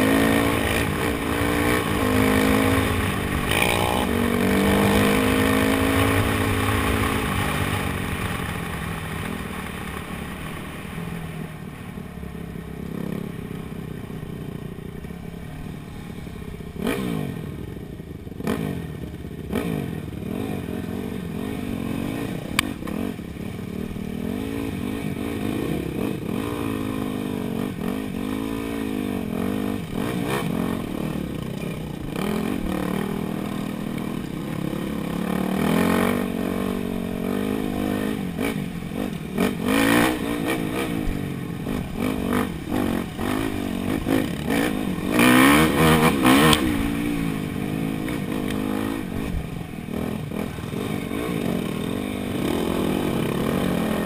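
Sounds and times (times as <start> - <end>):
dirt bike engine revving: 0.0 - 10.4, 16.8 - 17.5, 18.4 - 54.0.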